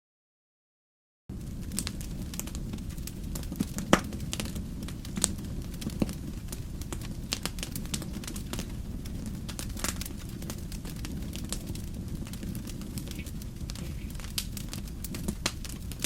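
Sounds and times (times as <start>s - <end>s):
wood fire crackling and popping: 1.3s - 16.0s.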